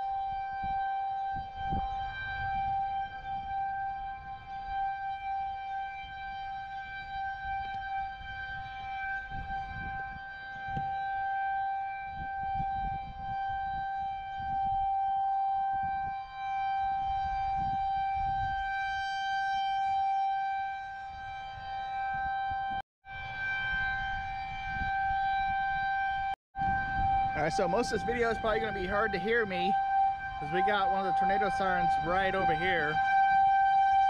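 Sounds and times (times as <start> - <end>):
tornado warning siren: 0.0 - 34.0.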